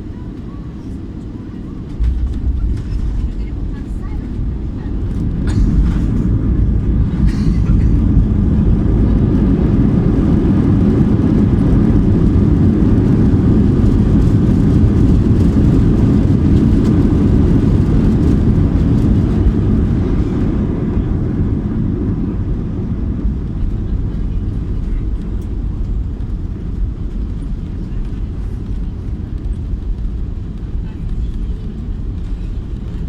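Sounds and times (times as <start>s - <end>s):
airplane cabin rumble: 0.0s - 33.0s.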